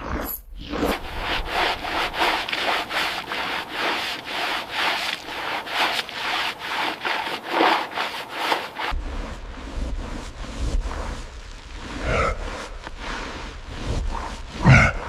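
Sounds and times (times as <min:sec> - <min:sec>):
rubbing strokes against a surface: 0:00.8 - 0:15.0.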